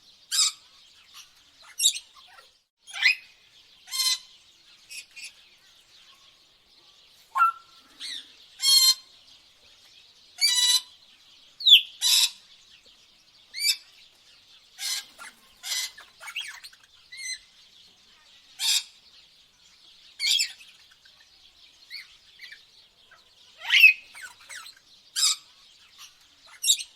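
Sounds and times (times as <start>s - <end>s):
tropical birds calling: 0.0s - 26.9s.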